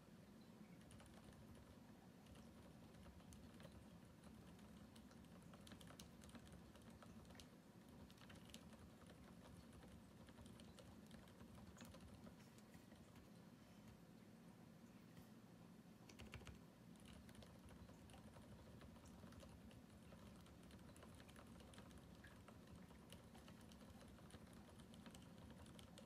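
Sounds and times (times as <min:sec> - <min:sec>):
mechanical keyboard typing: 0:00.8 - 0:13.2, 0:16.1 - 0:26.0.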